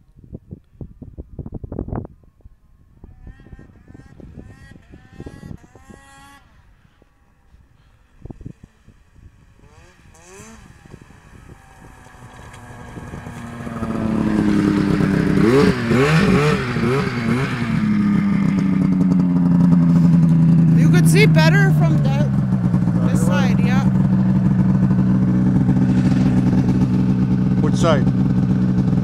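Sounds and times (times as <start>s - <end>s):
snowmobile engines: 2.8s - 29.0s.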